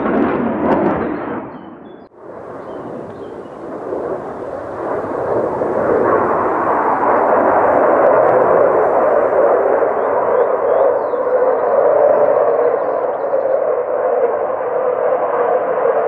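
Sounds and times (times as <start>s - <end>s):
fighter jet roar: 2.2s - 16.0s.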